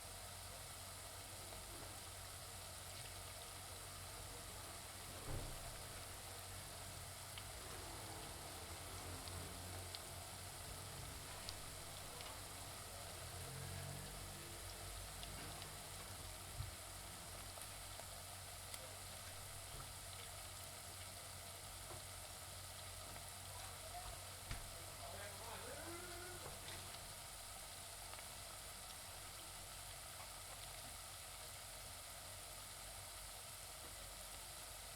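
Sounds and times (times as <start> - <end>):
onions sizzling in a pan: 0.0 - 34.9.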